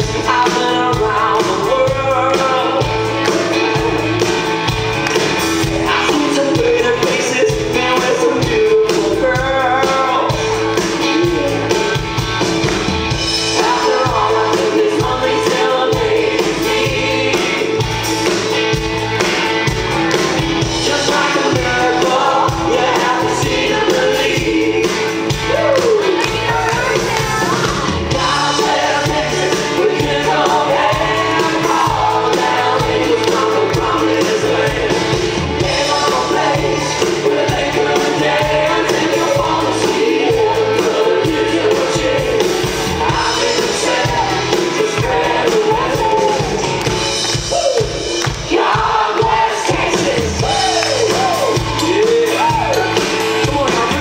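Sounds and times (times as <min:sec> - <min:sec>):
singers with band: 0:00.0 - 0:54.0.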